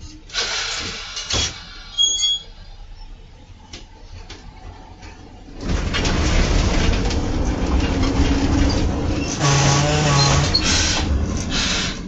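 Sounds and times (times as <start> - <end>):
train wheels rumbling on rail: 0.3 - 2.0, 3.6 - 12.0.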